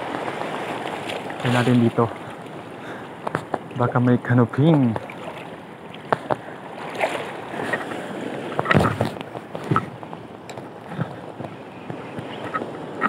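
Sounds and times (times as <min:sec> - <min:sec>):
knocks and splashes: 0:00.0 - 0:04.0, 0:04.6 - 0:12.8
choppy surf: 0:00.0 - 0:13.0.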